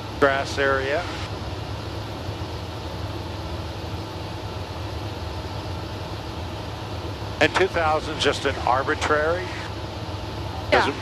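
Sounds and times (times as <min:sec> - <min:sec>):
light aircraft cabin drone: 0:00.0 - 0:11.0.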